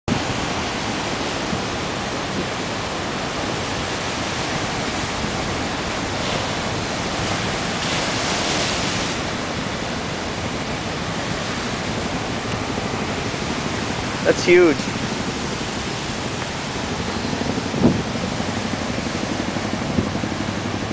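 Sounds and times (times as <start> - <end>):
surf breaking on rocks: 0.1 - 20.9.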